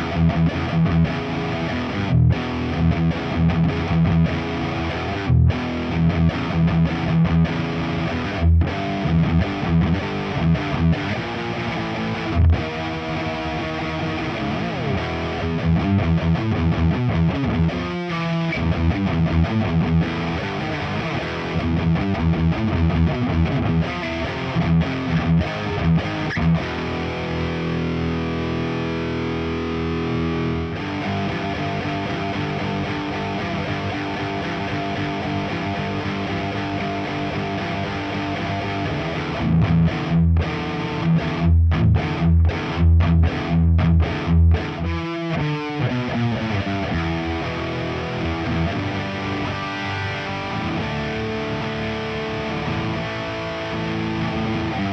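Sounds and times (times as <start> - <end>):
distorted electric guitar riffing: 0.0 - 54.9.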